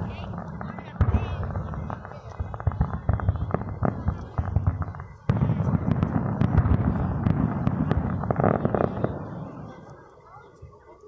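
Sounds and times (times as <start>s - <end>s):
firework bangs and crackle: 0.0s - 10.9s.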